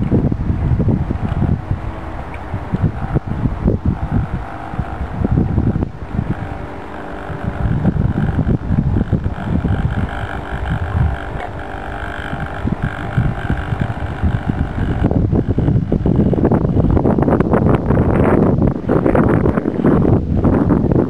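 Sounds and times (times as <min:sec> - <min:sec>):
small electric motors whining: 0:00.0 - 0:21.0
wind buffeting microphone: 0:00.0 - 0:21.0.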